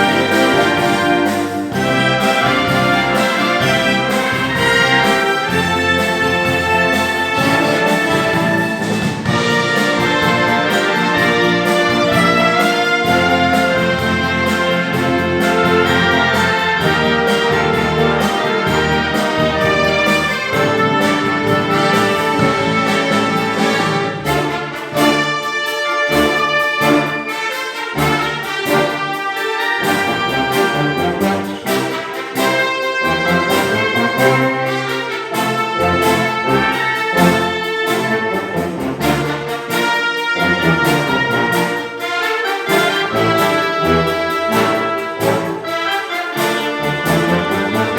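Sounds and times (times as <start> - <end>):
orchestral backing music: 0.0 - 47.9.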